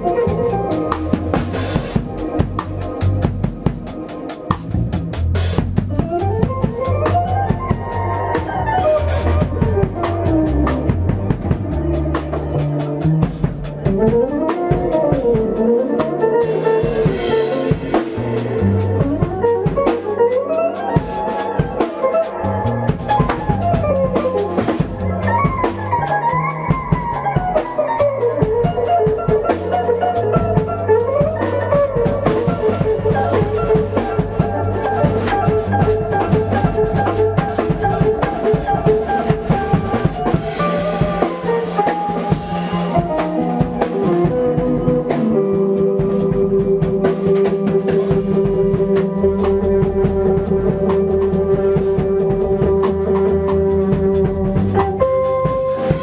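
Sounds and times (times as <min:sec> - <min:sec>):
electric guitar solo: 0:00.0 - 0:03.0, 0:06.0 - 0:13.0, 0:13.8 - 0:56.0
drum kit: 0:00.0 - 0:56.0
electric bass: 0:00.0 - 0:56.0.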